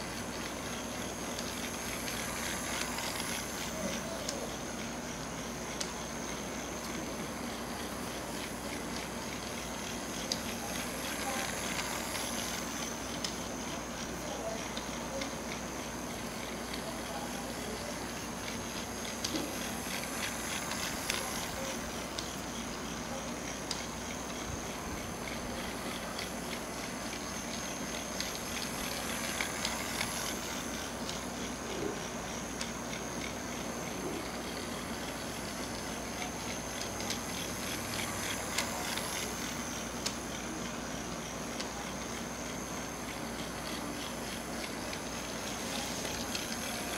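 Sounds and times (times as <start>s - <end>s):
toy train motor whirring: 0.0s - 46.9s
wheels clicking on plastic track: 0.0s - 46.9s.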